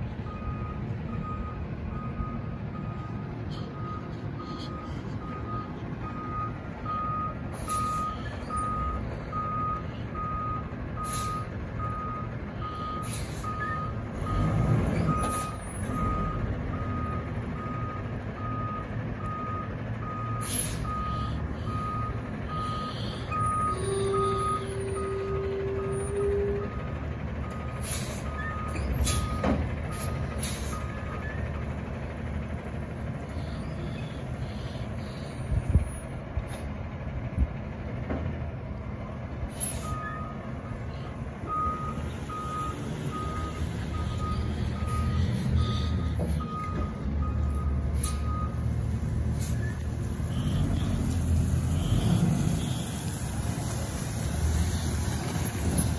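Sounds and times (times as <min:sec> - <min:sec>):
diesel engine running: 0:00.0 - 0:55.9
truck reversing alarm beeping: 0:00.1 - 0:37.0, 0:38.8 - 0:55.9.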